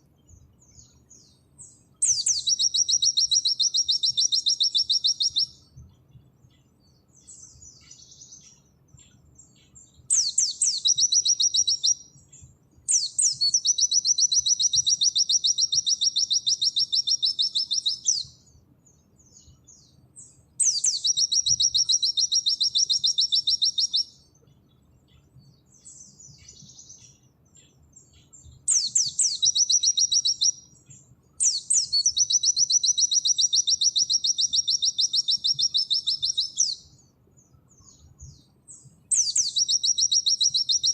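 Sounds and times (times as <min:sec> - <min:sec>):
bird singing high trills: 0:00.0 - 0:05.8, 0:06.9 - 0:24.4, 0:25.2 - 0:40.9
soft bird twittering: 0:00.0 - 0:40.9.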